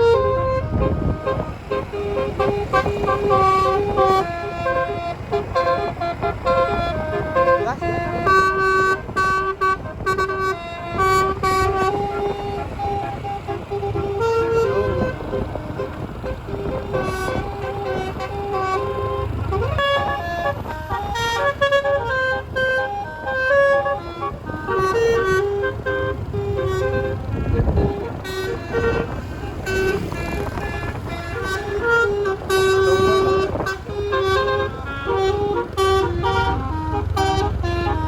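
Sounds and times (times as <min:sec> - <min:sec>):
air horn playing a tune: 0:00.0 - 0:38.0
low engine rumble: 0:00.0 - 0:38.0.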